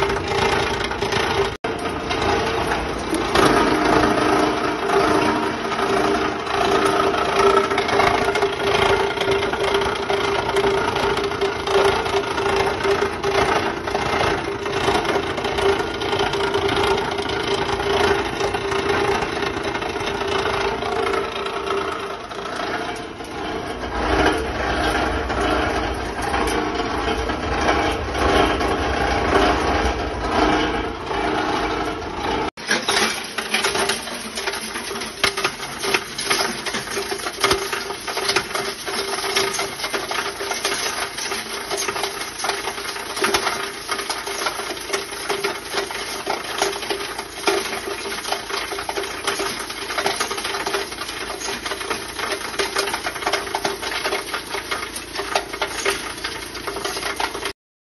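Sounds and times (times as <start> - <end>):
rapid rattling and clicking: 0.0 - 57.6
shredder motor rumbling: 0.0 - 57.6.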